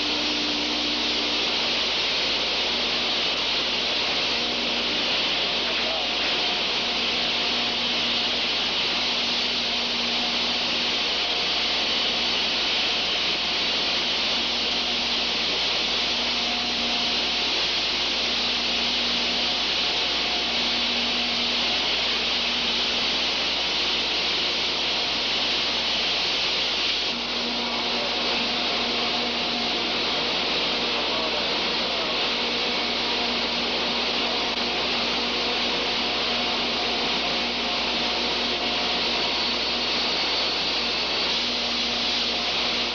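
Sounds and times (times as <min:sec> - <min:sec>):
spray hose hissing: 0:00.0 - 0:42.9.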